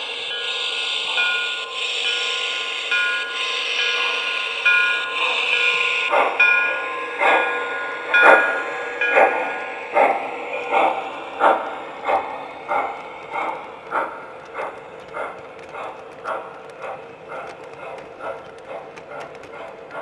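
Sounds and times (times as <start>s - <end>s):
model steam train hissing: 0.0s - 20.0s
wheels clacking: 0.0s - 20.0s.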